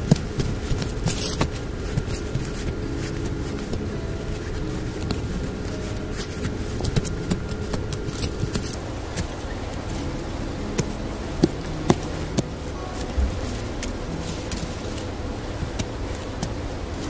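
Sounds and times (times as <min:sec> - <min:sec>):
background hiss: 0:00.0 - 0:17.0
digging stick scraping soil: 0:00.0 - 0:17.0.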